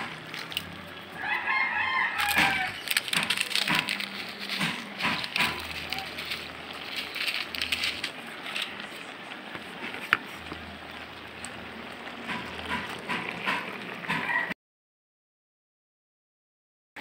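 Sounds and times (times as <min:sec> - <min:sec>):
vegetables simmering in a wok: 0:00.0 - 0:14.5.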